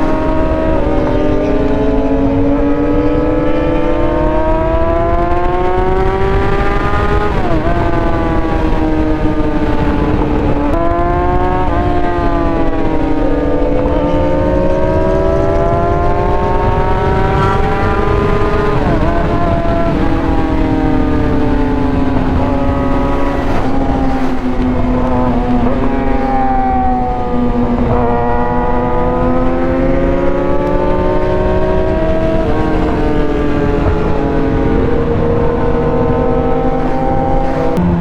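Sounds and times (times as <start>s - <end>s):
motorcycle engine: 0.0s - 38.0s
wind rush: 0.0s - 38.0s.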